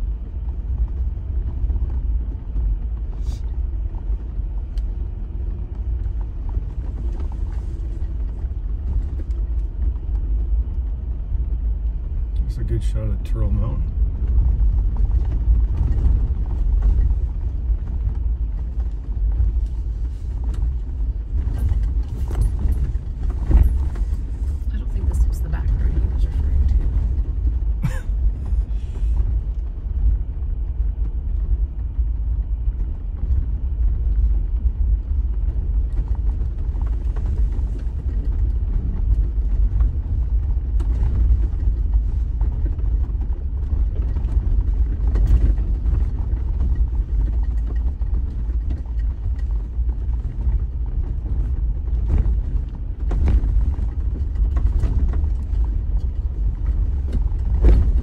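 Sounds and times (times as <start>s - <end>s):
tyres and drivetrain rumbling: 0.0s - 58.0s
vehicle knocks and rattles: 0.0s - 58.0s.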